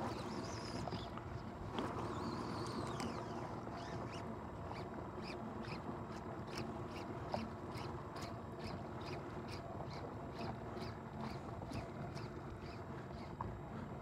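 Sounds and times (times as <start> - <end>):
fly line squeaking on rod: 0.0 - 1.2, 2.0 - 13.4.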